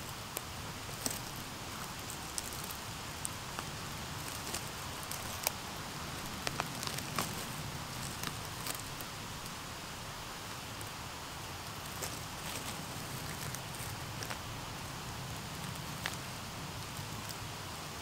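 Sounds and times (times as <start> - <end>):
dry leaves and twigs crackling: 0.0 - 18.0
steady soft hiss: 0.0 - 18.0.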